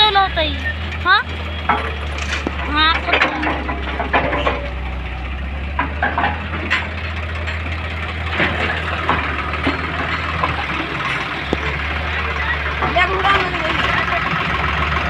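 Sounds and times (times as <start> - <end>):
diesel engine running: 0.0 - 15.0
short knocks and clatter: 1.0 - 14.4.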